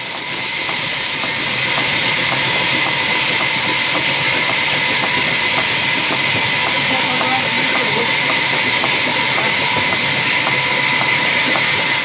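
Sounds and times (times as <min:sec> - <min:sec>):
sawmill saw cutting log: 0:00.0 - 0:12.0.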